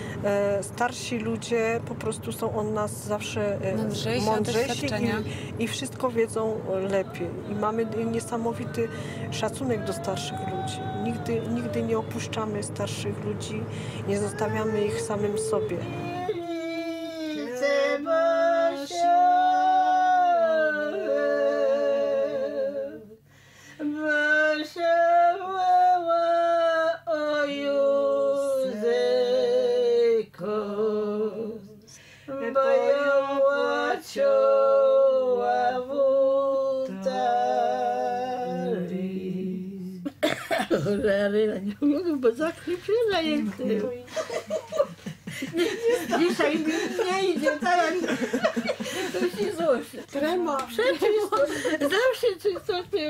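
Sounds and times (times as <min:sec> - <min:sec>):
elderly woman singing: 0:00.0 - 0:23.2, 0:23.8 - 0:45.0.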